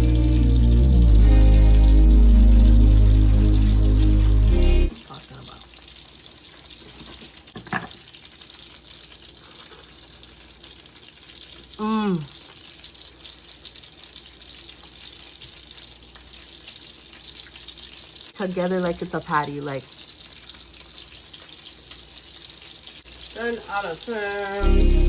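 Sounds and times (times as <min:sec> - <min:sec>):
chicken frying in hot oil: 0:00.0 - 0:25.0.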